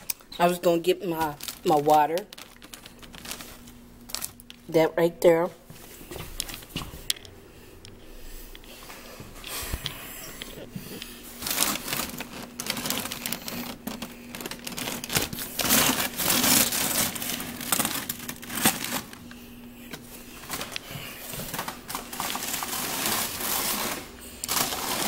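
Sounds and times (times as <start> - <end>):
rustling and crinkling handling noise: 0.0 - 25.0
steady low hum: 0.0 - 25.0.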